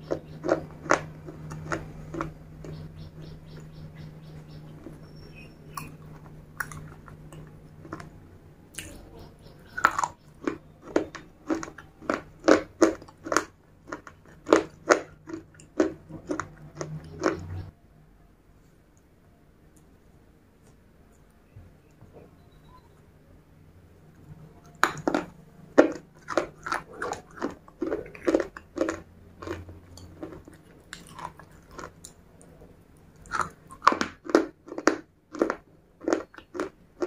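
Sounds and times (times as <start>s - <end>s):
crunching and chewing slate: 0.0s - 17.7s, 24.6s - 37.0s.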